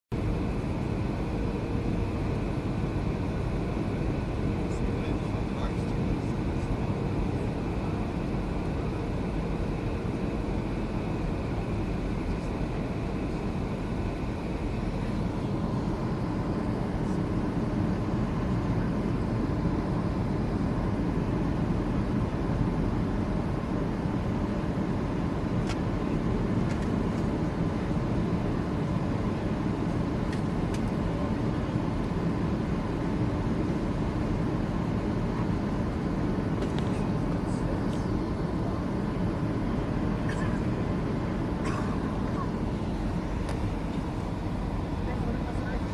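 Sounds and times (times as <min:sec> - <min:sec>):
airliner engines roaring in cabin: 0:00.1 - 0:45.9.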